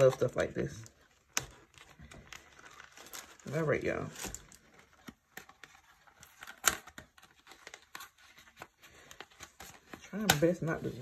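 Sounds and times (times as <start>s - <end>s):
paper packaging rustling: 0.0s - 11.0s.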